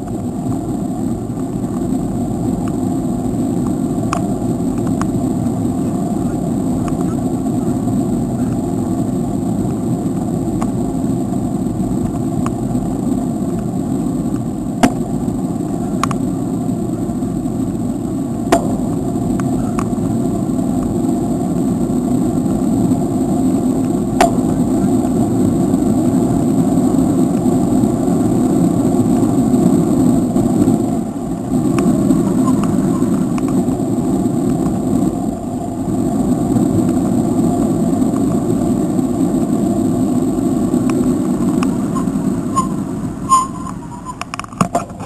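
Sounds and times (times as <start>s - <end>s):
wind rushing: 0.0s - 44.2s
bicycle road noise: 0.0s - 45.0s.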